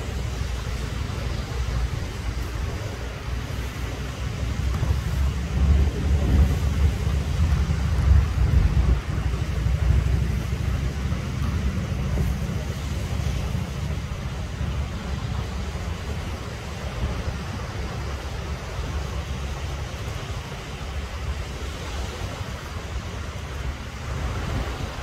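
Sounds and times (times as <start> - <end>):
small waves breaking on sand: 0.0 - 25.0
wind buffeting microphone: 0.0 - 25.0.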